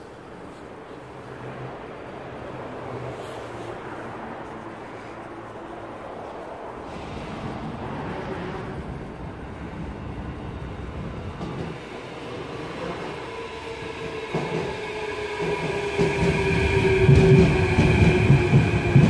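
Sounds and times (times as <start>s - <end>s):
train wheels rumbling on rails: 0.0s - 19.0s
train whine: 0.0s - 19.0s.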